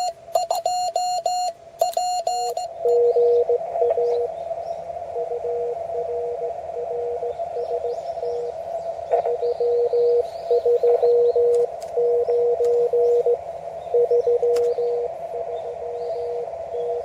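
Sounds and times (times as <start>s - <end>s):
morse code tone: 0.0s - 4.3s, 5.1s - 7.9s, 9.1s - 17.0s
receiver hiss: 0.0s - 17.0s.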